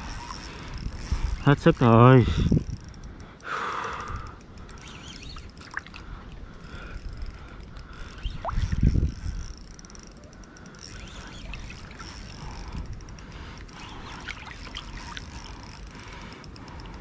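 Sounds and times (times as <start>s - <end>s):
fishing reel whirring and ratcheting: 0.0s - 17.0s.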